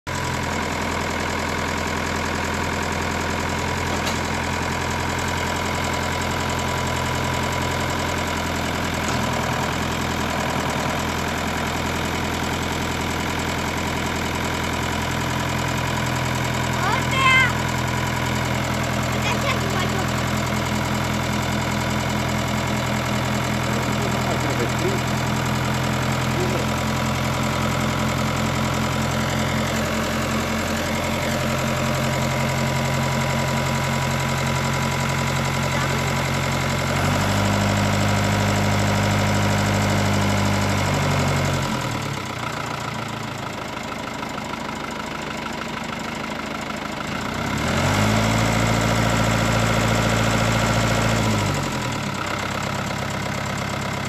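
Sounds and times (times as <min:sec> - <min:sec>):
tractor engine running: 0:00.1 - 0:54.0.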